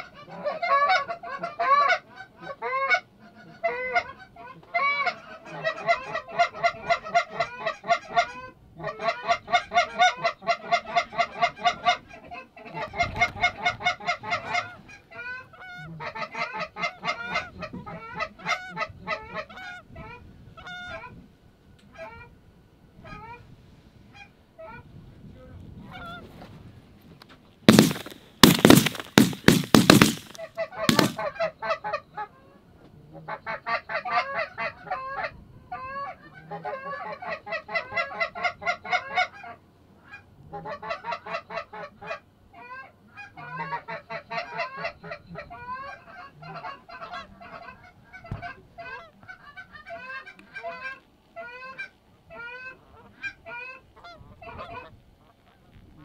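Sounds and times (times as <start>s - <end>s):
geese honking and clucking: 0.0s - 21.2s, 25.9s - 26.3s, 27.7s - 56.0s.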